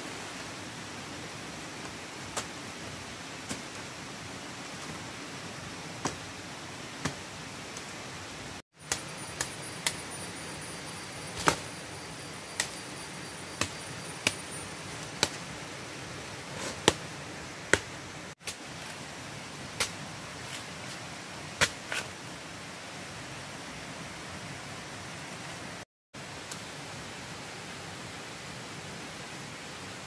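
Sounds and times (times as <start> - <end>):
forest hiss: 0.0 - 30.0.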